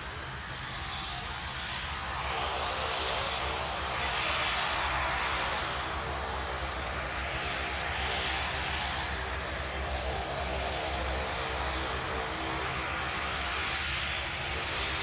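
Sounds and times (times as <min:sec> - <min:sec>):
turboprop engines whining: 0:00.0 - 0:15.0.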